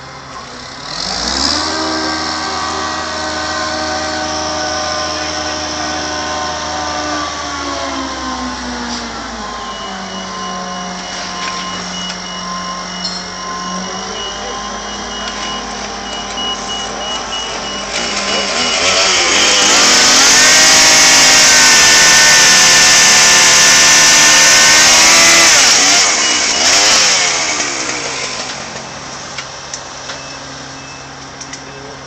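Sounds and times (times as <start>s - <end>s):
crane diesel engine revving: 0.0s - 32.0s.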